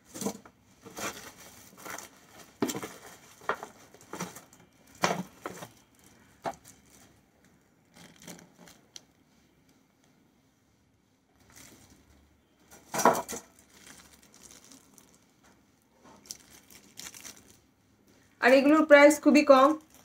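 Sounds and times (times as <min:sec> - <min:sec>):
plastic wrapping crinkling: 0:00.0 - 0:09.3, 0:11.3 - 0:17.8, 0:18.4 - 0:20.0.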